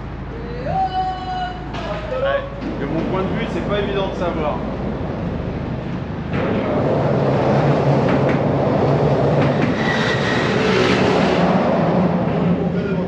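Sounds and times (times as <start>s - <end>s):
traffic rumbling over steel grate: 0.0s - 13.0s.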